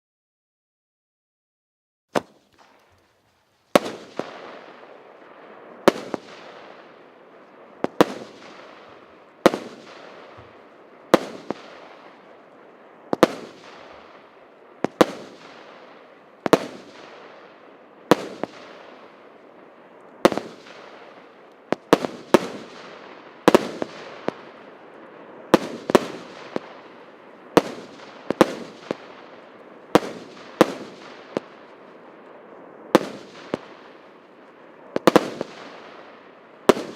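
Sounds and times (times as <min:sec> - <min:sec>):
firework bangs: 0:02.1 - 0:03.0, 0:03.7 - 0:31.8, 0:32.9 - 0:34.1, 0:34.8 - 0:36.9.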